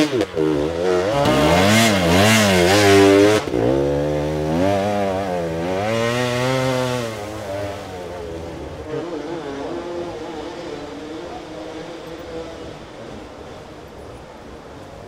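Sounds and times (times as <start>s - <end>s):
dirt bike engine revving: 0.0s - 13.7s.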